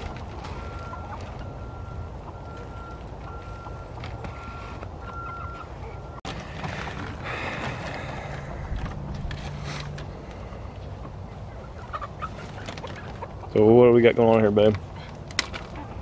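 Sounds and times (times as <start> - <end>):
chickens clucking: 0.0 - 14.1.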